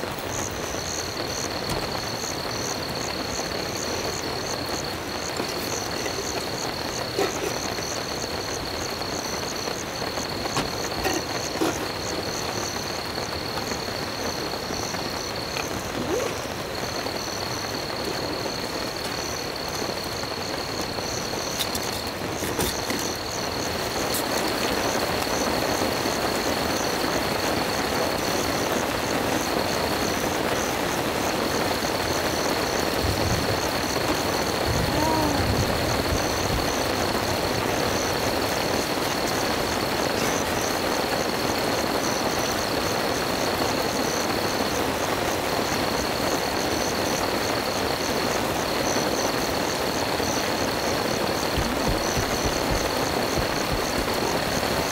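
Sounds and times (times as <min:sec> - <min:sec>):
high insect trill: 0:00.0 - 0:54.9
rain hiss: 0:00.0 - 0:54.9.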